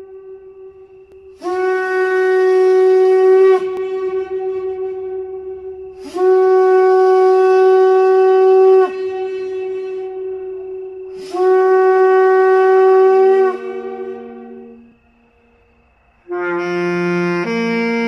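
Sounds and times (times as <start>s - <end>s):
ram's horn blasts: 0.0s - 15.0s.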